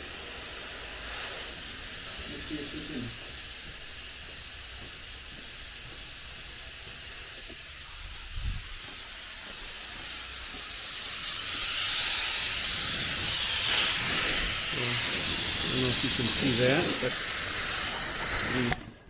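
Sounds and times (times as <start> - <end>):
air hissing out of tires: 0.0 - 18.9.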